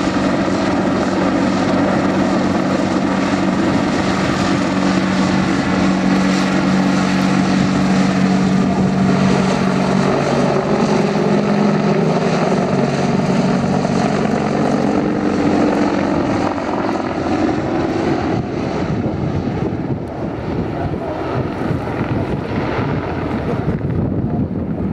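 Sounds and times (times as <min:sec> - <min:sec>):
helicopter rotor and turbine drone: 0:00.0 - 0:24.9.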